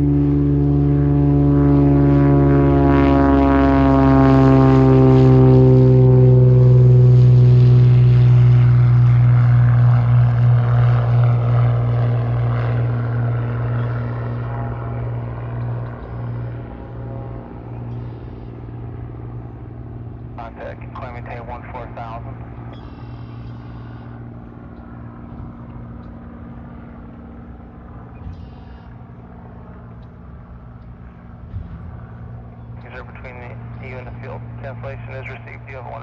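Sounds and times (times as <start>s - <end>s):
propeller airplane passing: 0.0s - 36.0s.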